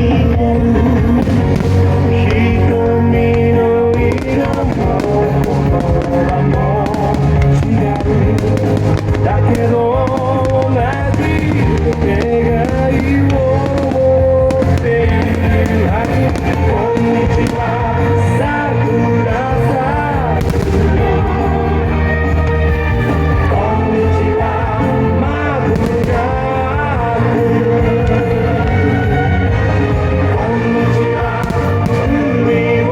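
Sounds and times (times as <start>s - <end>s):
song with band and singing: 0.0s - 32.9s
firework bursts and crackles: 0.6s - 29.2s, 30.5s - 32.9s.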